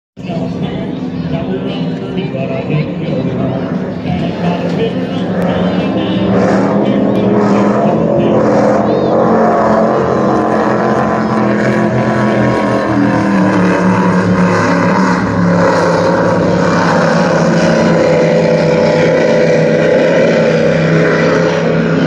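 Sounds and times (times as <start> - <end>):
powerboat engines droning: 0.2 - 22.0.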